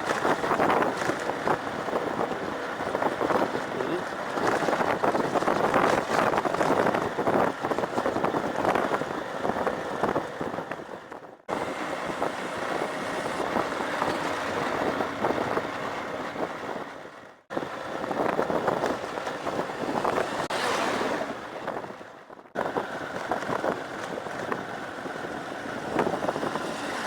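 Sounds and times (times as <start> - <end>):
vehicle rumble on dirt road: 0.0 - 27.0
wind on microphone: 0.0 - 27.0.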